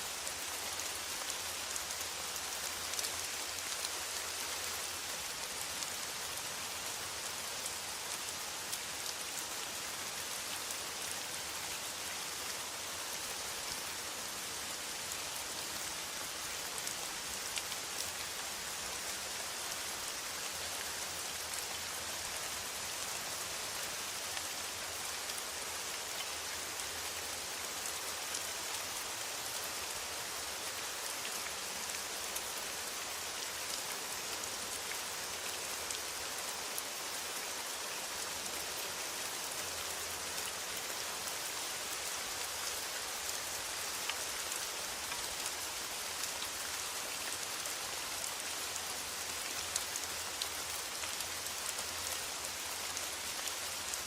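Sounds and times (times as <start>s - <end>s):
rain on a metal roof: 0.0s - 54.0s.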